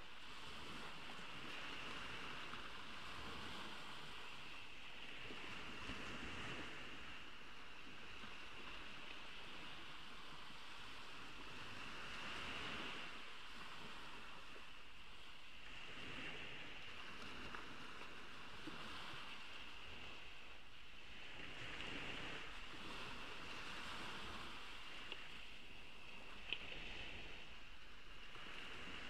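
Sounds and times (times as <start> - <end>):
ocean waves washing ashore: 0.0 - 29.0.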